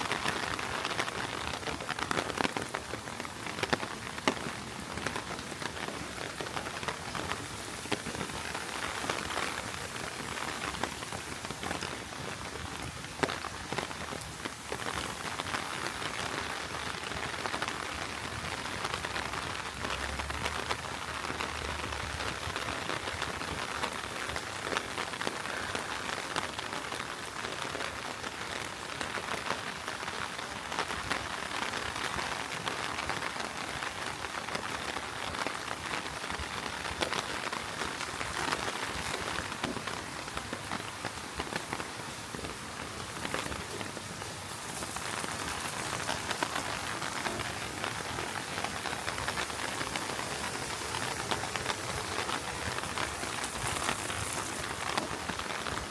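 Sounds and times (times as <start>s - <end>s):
heavy rain on street: 0.0s - 55.9s.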